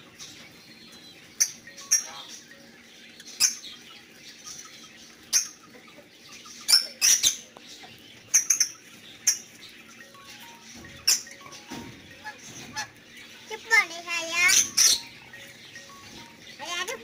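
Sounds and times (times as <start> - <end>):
birds chirping shrilly: 0.0 - 17.0.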